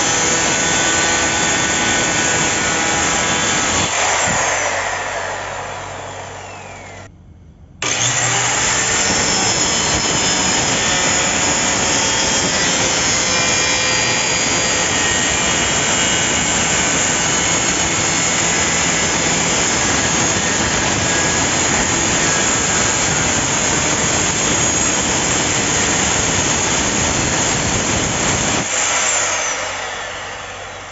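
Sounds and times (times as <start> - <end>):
circular saw cutting plywood: 0.0 - 7.1, 7.8 - 30.9.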